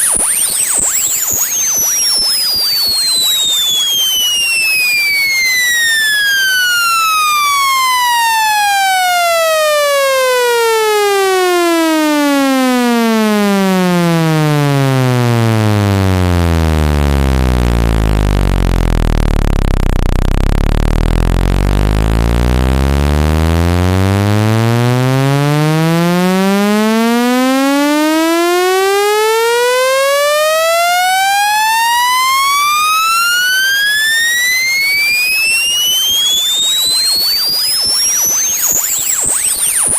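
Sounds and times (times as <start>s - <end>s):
buzzy electronic sweeping tone: 0.0s - 11.6s, 12.7s - 39.9s.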